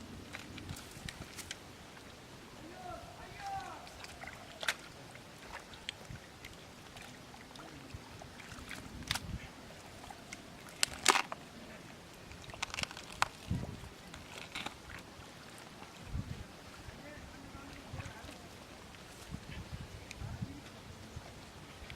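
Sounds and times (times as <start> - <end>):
outdoor background noise: 0.0 - 21.9.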